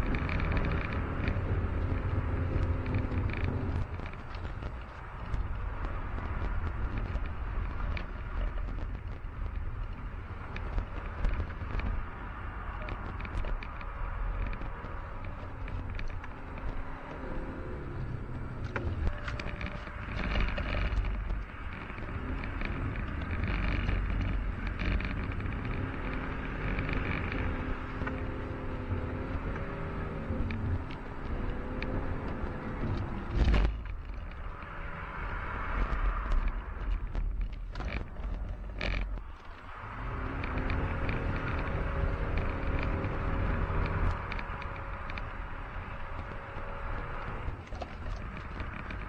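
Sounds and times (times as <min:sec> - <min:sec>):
diesel engine revving: 0:00.0 - 0:49.0
low rumble: 0:00.0 - 0:49.0.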